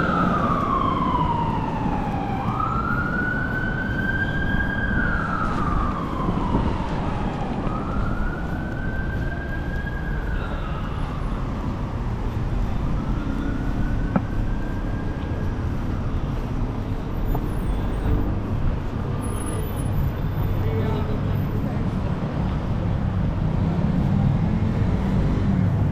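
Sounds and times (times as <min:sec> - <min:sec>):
emergency vehicle siren wailing: 0:00.0 - 0:25.9
road traffic rumble: 0:00.0 - 0:25.9.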